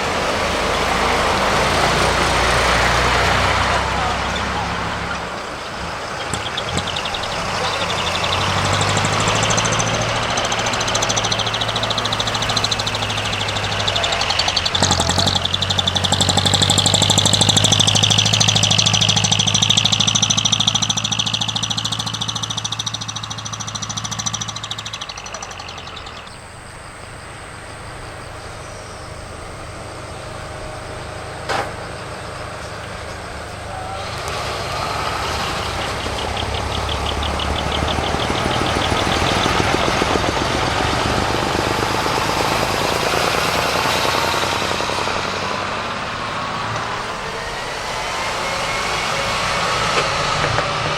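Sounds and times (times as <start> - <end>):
truck diesel engines: 0.0 - 50.9.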